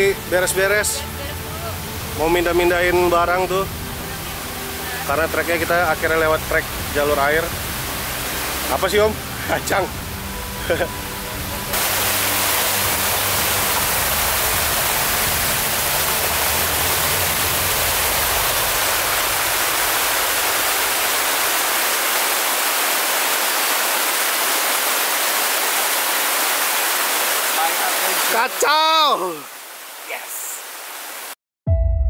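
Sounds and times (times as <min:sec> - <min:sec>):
water rushing down waterfall: 0:00.0 - 0:31.4.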